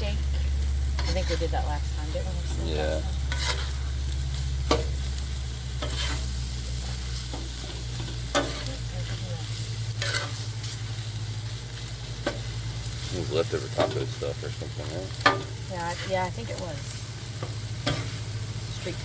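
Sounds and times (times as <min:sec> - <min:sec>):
food sizzling on a griddle: 0:00.0 - 0:19.0
low hum: 0:00.0 - 0:19.0
metal utensil scraping griddle: 0:00.0 - 0:19.0.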